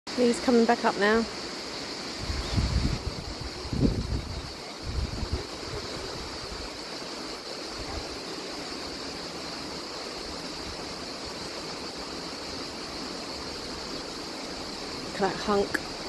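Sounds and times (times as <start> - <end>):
river rushing over rocks: 0.2 - 16.0.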